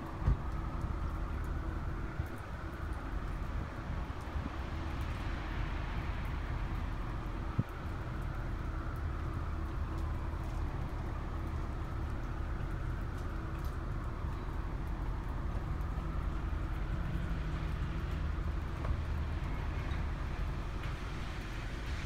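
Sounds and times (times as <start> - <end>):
city street traffic rumble: 0.0 - 22.0.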